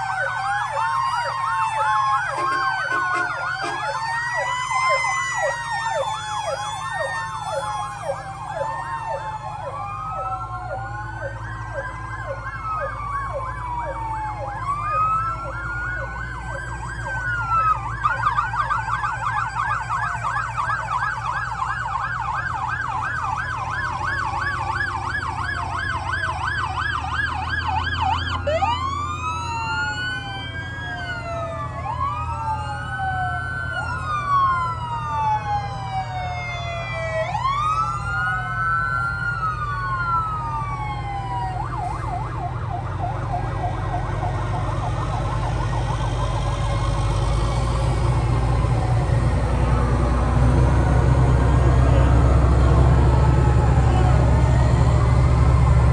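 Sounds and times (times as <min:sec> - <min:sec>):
fire truck sirens wailing: 0:00.0 - 0:55.9
siren yelp: 0:00.0 - 0:55.9
truck engines rumbling: 0:00.0 - 0:55.9.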